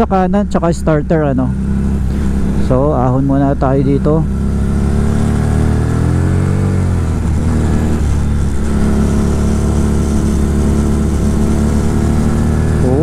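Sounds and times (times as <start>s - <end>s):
motorcycle engine pulling uphill: 0.0s - 13.0s.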